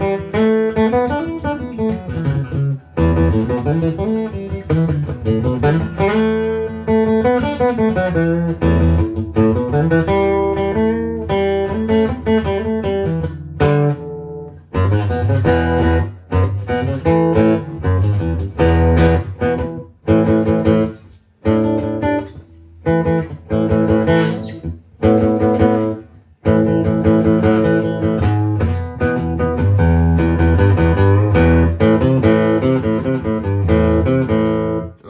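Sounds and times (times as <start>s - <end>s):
amplified acoustic guitar: 0.0s - 35.0s.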